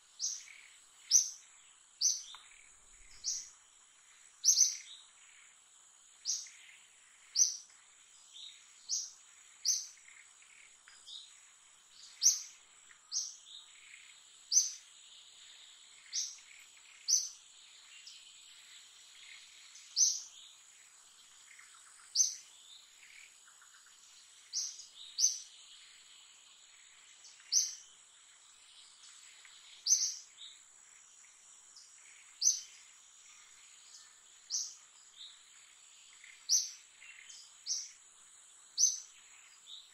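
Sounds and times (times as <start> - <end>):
bird chirping: 0.0 - 5.6, 6.2 - 39.9
insect drone: 0.0 - 39.9.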